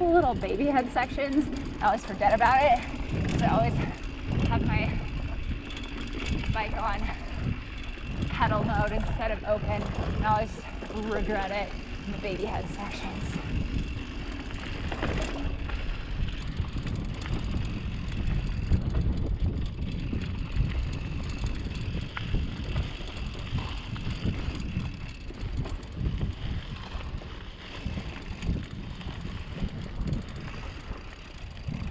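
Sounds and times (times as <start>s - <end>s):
bike rattling: 0.0s - 31.9s
wind buffeting microphone: 0.0s - 31.9s.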